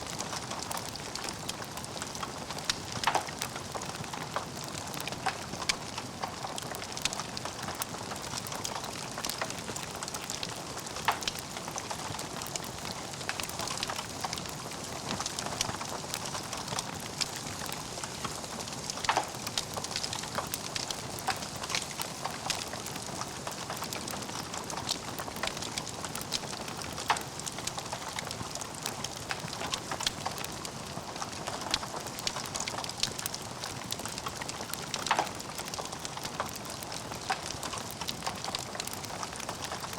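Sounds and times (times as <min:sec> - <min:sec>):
wood fire crackling: 0:00.0 - 0:39.9
fire popping: 0:00.1 - 0:39.9.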